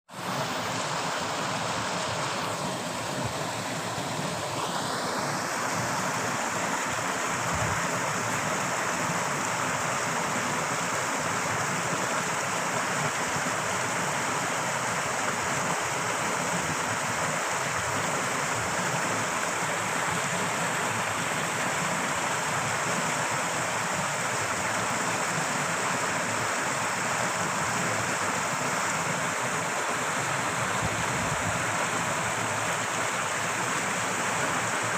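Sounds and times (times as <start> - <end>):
rushing water: 0.1 - 34.9.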